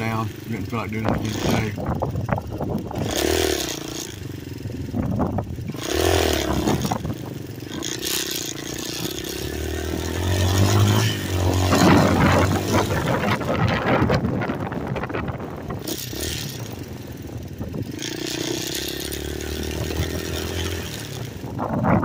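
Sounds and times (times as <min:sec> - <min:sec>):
dirt motorcycle engine revving: 0:00.0 - 0:22.0.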